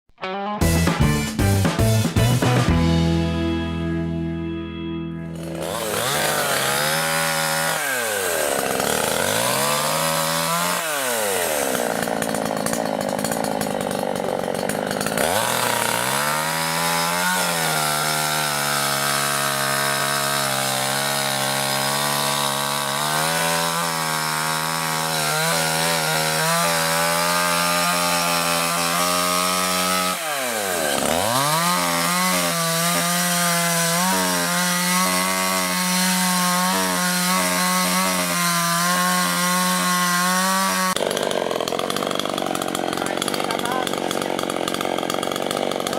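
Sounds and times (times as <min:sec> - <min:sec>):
chainsaw cutting wood: 0:00.6 - 0:04.0, 0:05.2 - 0:45.9.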